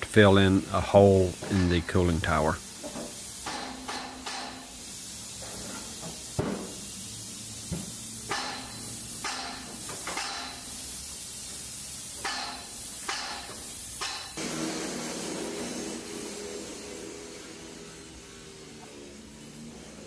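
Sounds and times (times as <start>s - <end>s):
steady high hiss: 0.0s - 20.0s
spray gun hissing: 0.5s - 20.0s.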